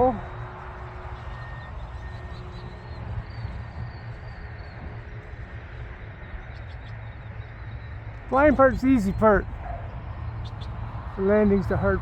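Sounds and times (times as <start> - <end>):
model plane motor whine: 0.0 - 12.0
wind buffeting microphone: 0.0 - 12.0.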